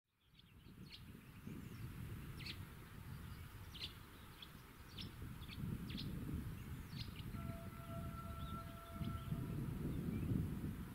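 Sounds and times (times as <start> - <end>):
small birds chirping: 0.1 - 7.4, 8.2 - 10.5.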